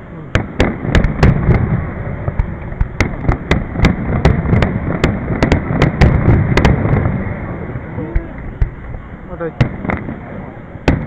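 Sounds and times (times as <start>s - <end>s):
firework bangs: 0.3s - 11.0s
low rumble of shells bursting: 0.3s - 11.0s.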